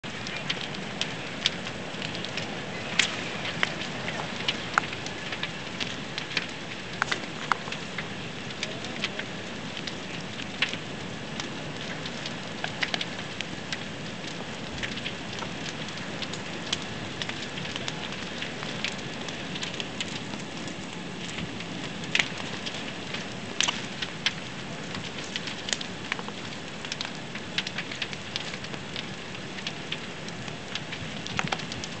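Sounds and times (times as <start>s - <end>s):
fire crackling and popping: 0.0s - 32.0s
fire rushing: 0.0s - 32.0s.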